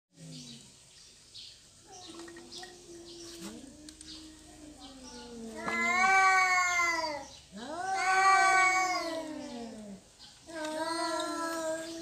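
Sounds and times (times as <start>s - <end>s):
cats yowling: 1.9s - 12.0s.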